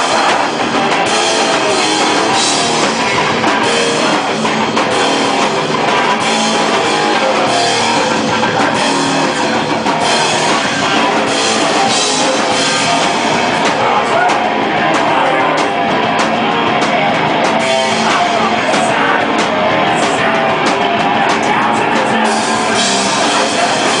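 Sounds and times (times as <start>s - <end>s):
distorted electric guitar: 0.0s - 24.0s
drum kit: 0.0s - 24.0s.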